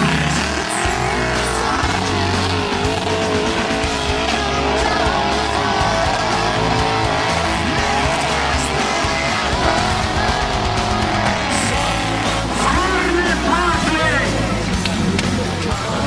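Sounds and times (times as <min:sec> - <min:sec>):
guitar background music: 0:00.0 - 0:16.0.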